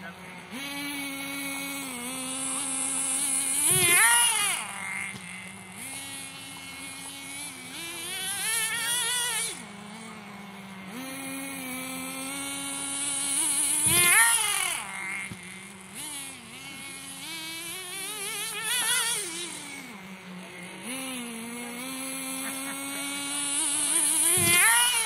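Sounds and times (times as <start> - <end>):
rc truck engine revving: 0.0 - 25.0.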